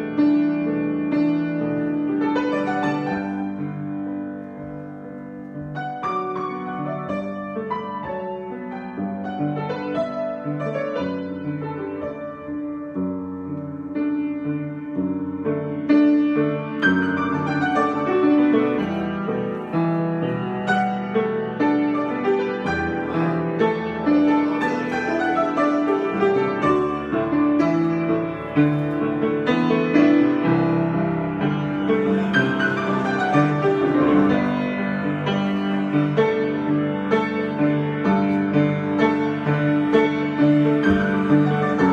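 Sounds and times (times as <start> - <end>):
solo piano: 0.0 - 41.9.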